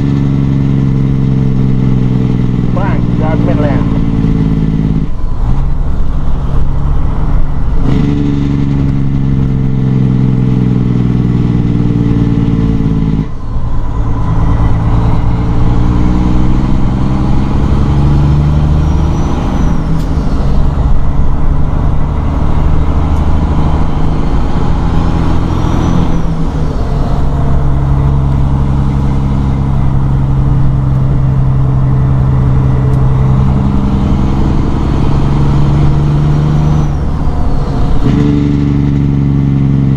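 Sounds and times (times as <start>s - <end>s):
diesel truck engine pulling under load: 0.0s - 39.9s.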